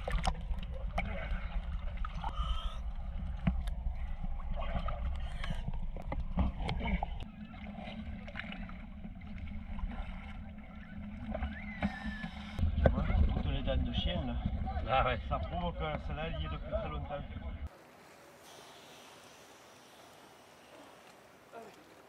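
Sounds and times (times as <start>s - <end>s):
steady low rumble: 0.0s - 17.7s
water sloshing and gurgling: 0.0s - 22.0s.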